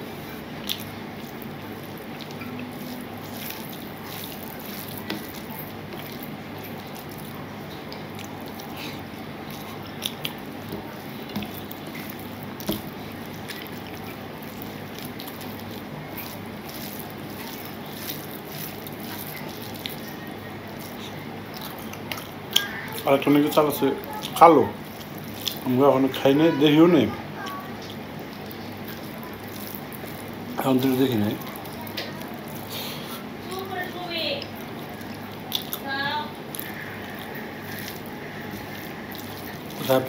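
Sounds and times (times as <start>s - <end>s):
chewing: 0.0s - 40.0s
steady background hum: 0.0s - 40.0s
fingers squishing rice: 0.1s - 40.0s.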